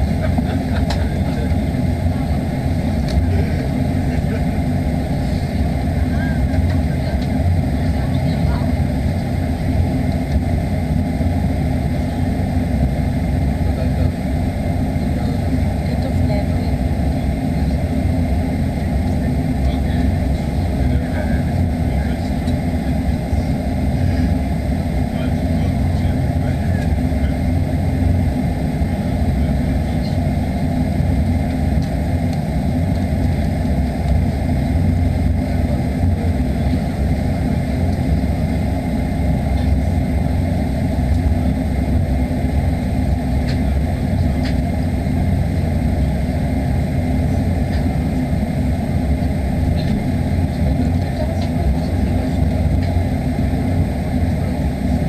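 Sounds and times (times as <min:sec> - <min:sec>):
jet engines idling: 0:00.0 - 0:55.0.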